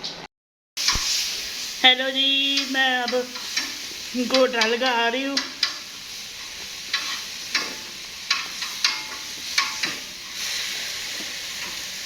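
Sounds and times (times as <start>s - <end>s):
hiss of cooking greens: 0.8s - 12.0s.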